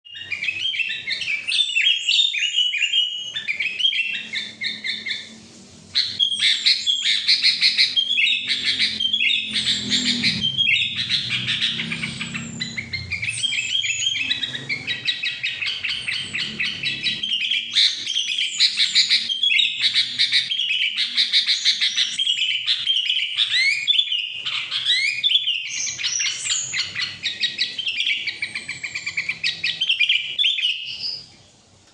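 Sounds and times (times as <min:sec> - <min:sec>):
bird singing in fast trills: 0:00.1 - 0:31.3.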